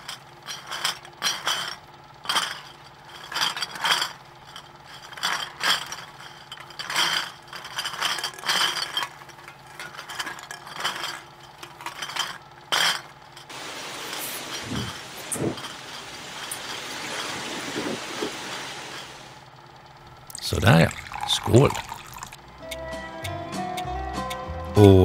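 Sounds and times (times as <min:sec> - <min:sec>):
glass bottles clinking and rattling: 0:00.0 - 0:19.4, 0:20.2 - 0:22.4
faint steady hum: 0:00.0 - 0:25.0.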